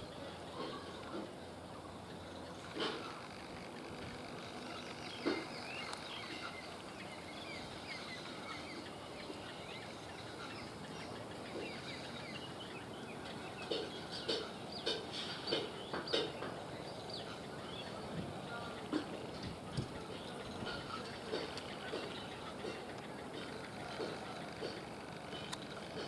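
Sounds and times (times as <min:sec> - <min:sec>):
faint rural background noise: 0:00.0 - 0:26.0
birds chirping and calling: 0:04.7 - 0:25.8.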